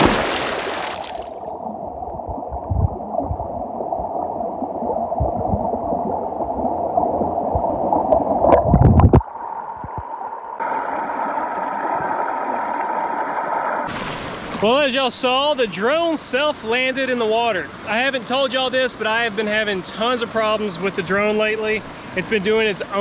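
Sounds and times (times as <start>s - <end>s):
muffled river water gurgling: 0.0s - 23.0s.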